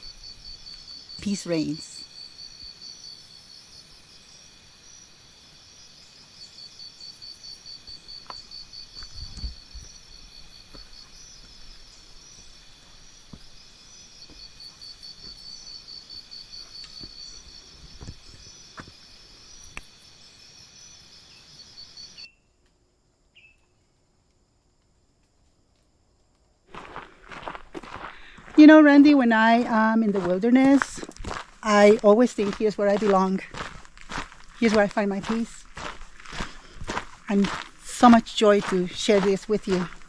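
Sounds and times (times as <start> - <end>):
insects chirping: 0.0 - 40.0.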